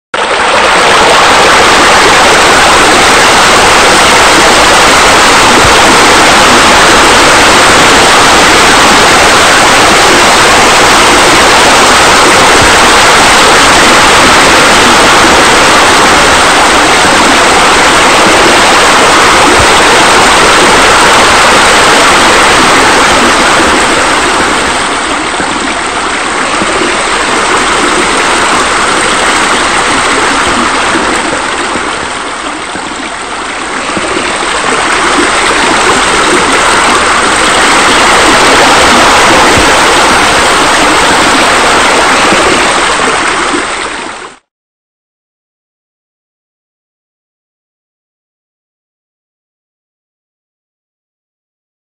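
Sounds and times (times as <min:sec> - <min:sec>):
rush of running water: 0:00.2 - 0:44.5.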